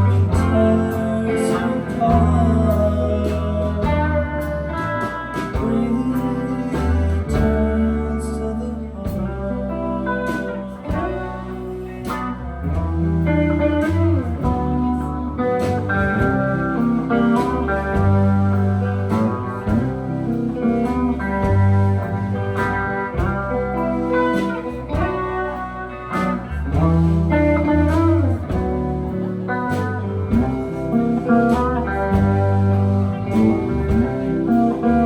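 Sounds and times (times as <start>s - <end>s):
bass notes: 0.0s - 35.0s
drums: 0.0s - 35.0s
electric guitar: 0.0s - 35.0s.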